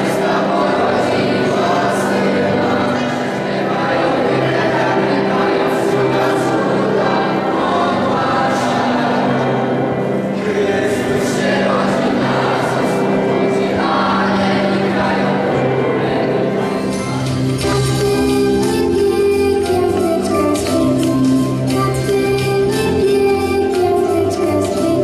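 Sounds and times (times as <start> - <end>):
mixed choir singing a carol: 0.0 - 25.0.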